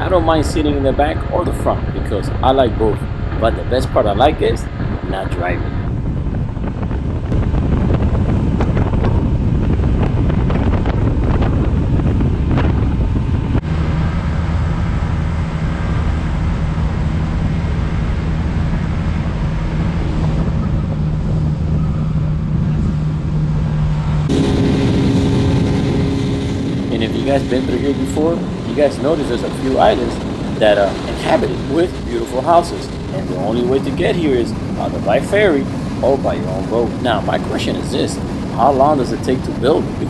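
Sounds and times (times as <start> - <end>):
outboard engine drone: 0.0 - 40.0
wind buffeting the microphone: 0.0 - 40.0.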